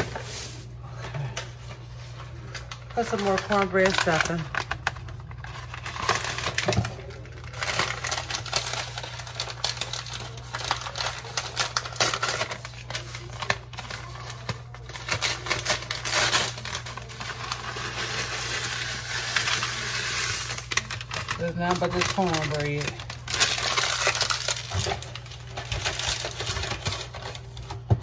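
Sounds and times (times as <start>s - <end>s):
bag crinkling: 2.4s - 27.9s.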